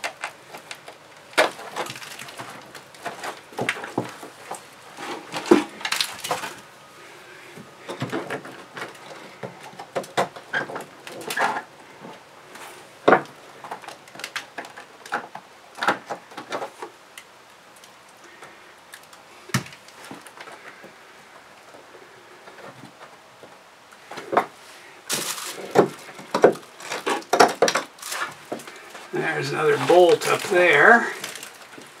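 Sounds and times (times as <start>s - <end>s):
scraping wood: 0.0s - 17.0s, 18.3s - 32.0s
wood cracking: 0.0s - 32.0s.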